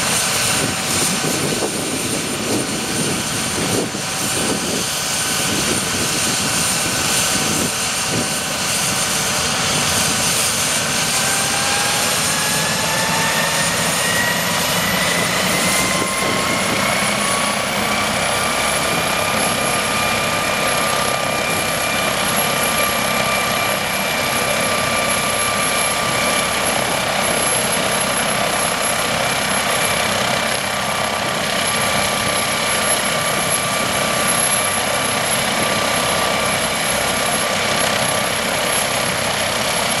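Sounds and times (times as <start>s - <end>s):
helicopter rotor noise: 0.0s - 40.0s
helicopter turbine whine: 0.0s - 40.0s.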